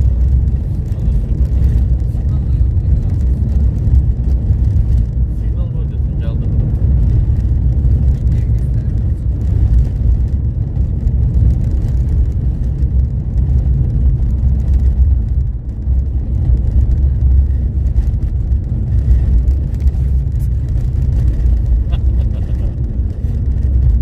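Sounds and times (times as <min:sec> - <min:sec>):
car driving on snowy road: 0:00.0 - 0:24.0.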